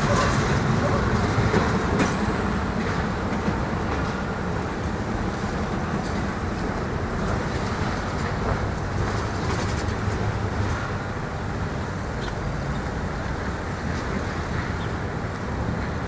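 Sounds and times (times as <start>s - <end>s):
vehicles driving over rails: 0.0s - 16.0s.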